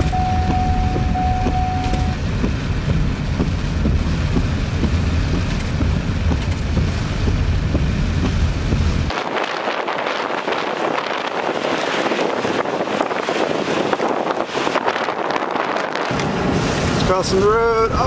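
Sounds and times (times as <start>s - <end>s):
storm wind buffeting microphone: 0.0s - 18.0s
rain hiss on wet road: 2.0s - 18.0s.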